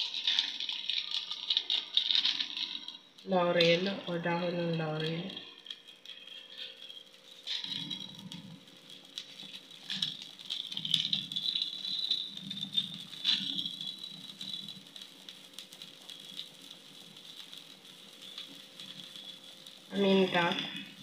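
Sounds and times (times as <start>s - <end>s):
liquid crackling and popping in pan: 0.0s - 21.0s.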